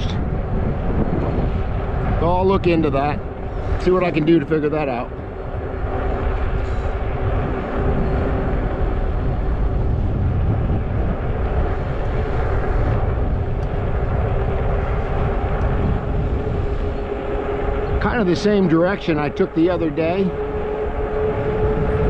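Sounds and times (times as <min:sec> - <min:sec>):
steady low drone: 0:00.0 - 0:22.0
wind buffeting microphone: 0:00.0 - 0:22.0.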